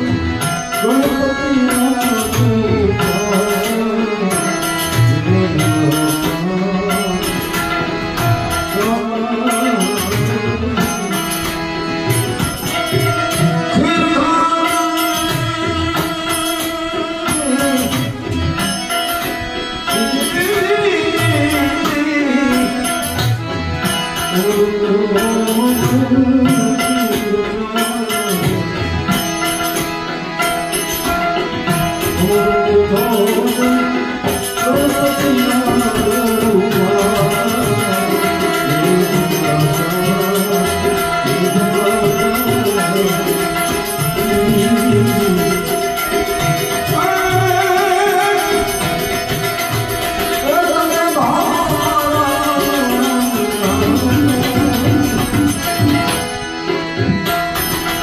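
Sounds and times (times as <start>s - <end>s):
harmonium playing: 0.0s - 58.0s
man singing devotional song: 0.0s - 58.0s
percussion steady beat: 0.0s - 58.0s.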